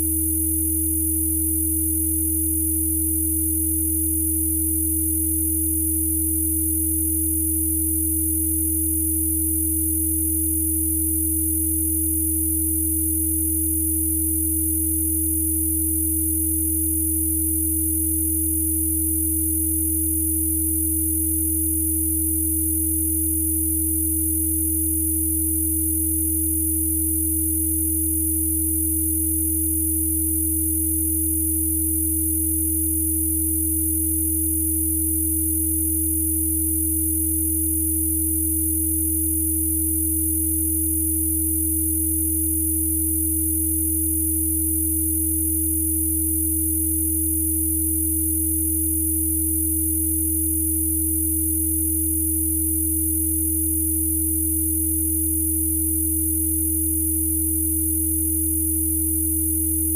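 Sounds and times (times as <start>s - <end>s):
electronic mid sine tone: 0.0s - 59.9s.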